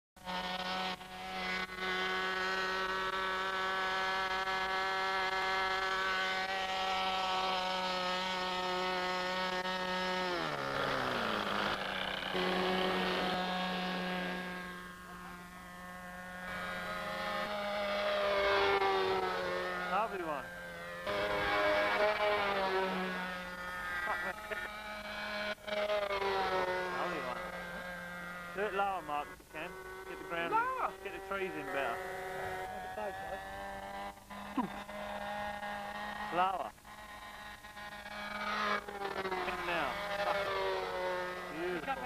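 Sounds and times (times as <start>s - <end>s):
model airplane engine running: 0.2s - 42.0s
model airplane flying past: 0.2s - 42.0s.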